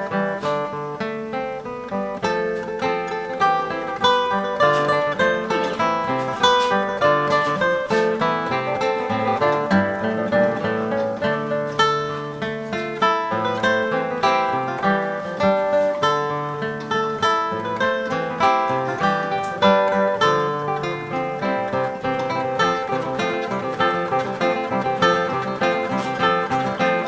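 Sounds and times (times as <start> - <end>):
plucked string early music: 0.0 - 27.0.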